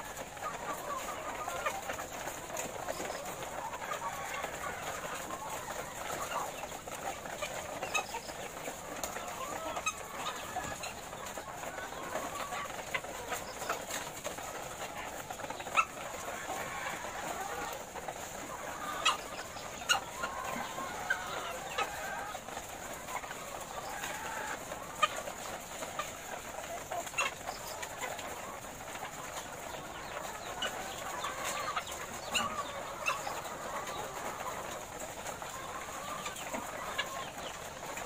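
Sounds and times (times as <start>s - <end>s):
hens clucking: 0.0s - 38.0s.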